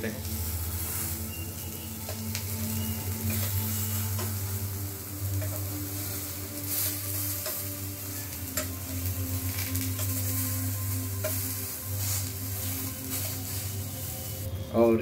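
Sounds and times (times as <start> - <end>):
eggplant sizzling in oil: 0.0 - 14.5
utensils scraping frying pan: 0.7 - 4.5, 5.3 - 14.4.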